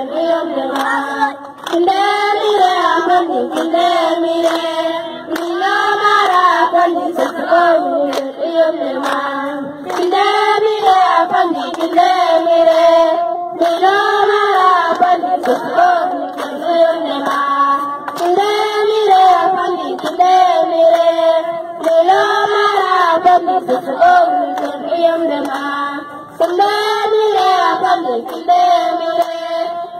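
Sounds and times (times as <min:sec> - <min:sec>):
girls singing together: 0:00.0 - 0:29.9
hands clapping: 0:00.6 - 0:08.4, 0:09.0 - 0:12.9, 0:13.6 - 0:22.8, 0:24.5 - 0:29.7.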